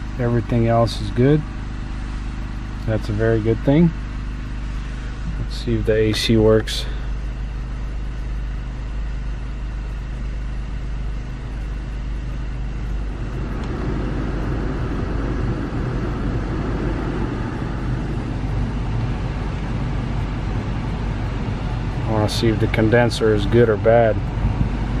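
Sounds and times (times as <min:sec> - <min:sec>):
car blower fan: 0:00.0 - 0:25.0
idling engine hum: 0:00.0 - 0:25.0.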